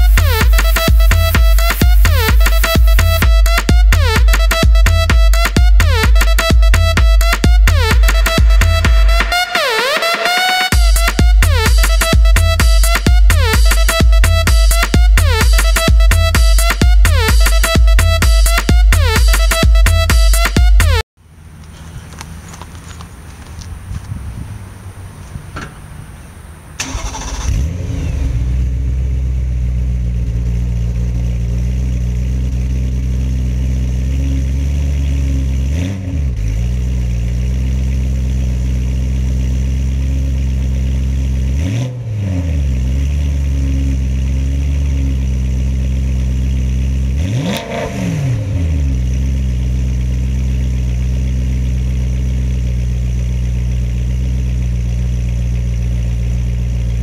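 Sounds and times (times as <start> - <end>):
car engine revving: 0.0 - 9.4, 10.7 - 57.0
car engine starting and idling: 0.0 - 10.1, 10.7 - 57.0.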